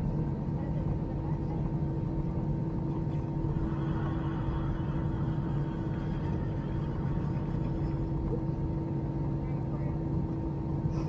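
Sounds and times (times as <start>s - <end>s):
aircraft cabin hum: 0.3s - 11.0s.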